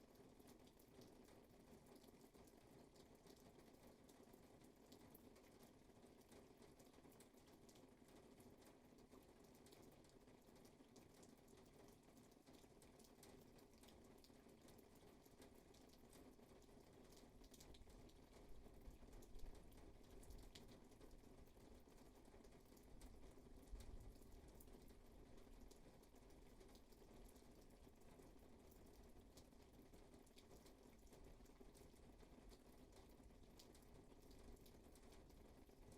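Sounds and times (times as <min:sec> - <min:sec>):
steady rain patter: 0:00.0 - 0:35.9.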